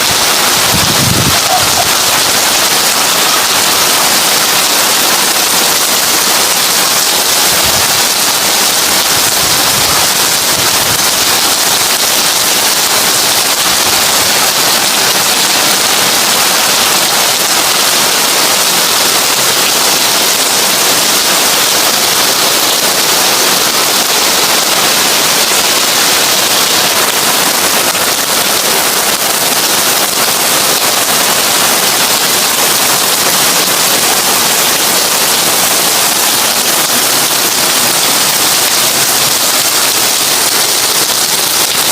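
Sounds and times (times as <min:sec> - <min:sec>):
heavy rain on a tin roof: 0:00.0 - 0:41.9.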